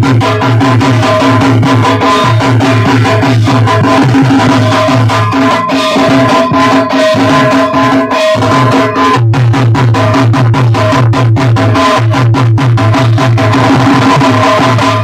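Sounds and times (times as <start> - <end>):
loud drum-heavy music: 0.0 - 15.0.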